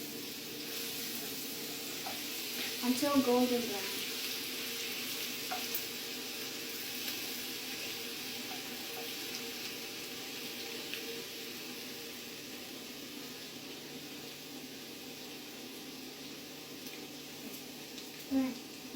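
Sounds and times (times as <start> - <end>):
garlic sizzling in oil: 0.0 - 18.9.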